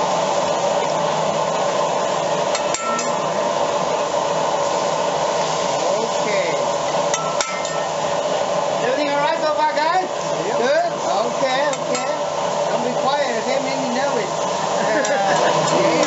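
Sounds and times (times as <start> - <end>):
steady sizzling: 0.0 - 16.0.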